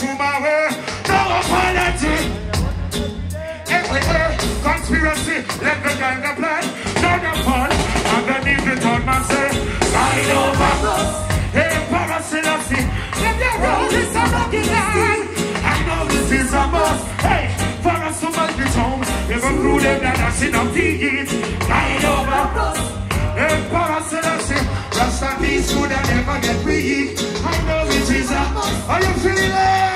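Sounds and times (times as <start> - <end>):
man singing into microphone: 0.0 - 2.6, 3.5 - 29.9
reggae band playing: 0.0 - 29.9.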